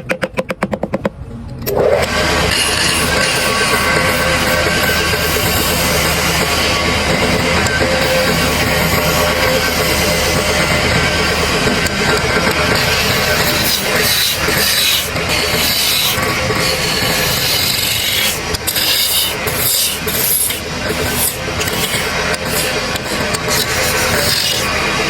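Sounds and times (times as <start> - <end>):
tool scraping wood: 0.0 - 25.0.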